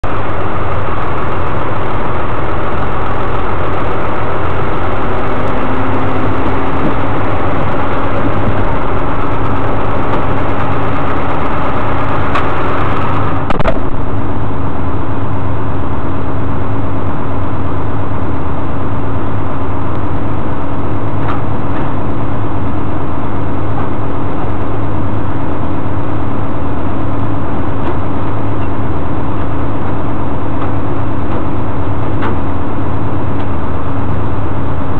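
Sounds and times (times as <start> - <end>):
steady hum: 0.0 - 34.9
truck engine idling: 0.0 - 34.9.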